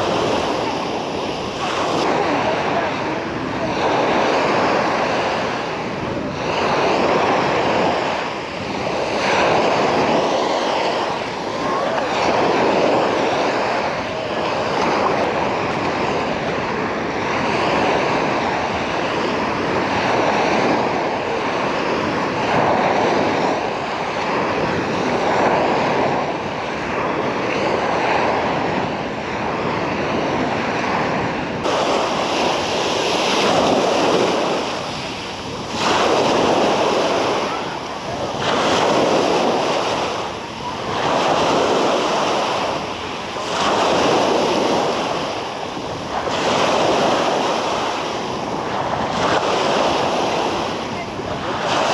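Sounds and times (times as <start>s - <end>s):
small waves washing onto beach: 0.0s - 51.9s
wind on microphone: 0.0s - 51.9s.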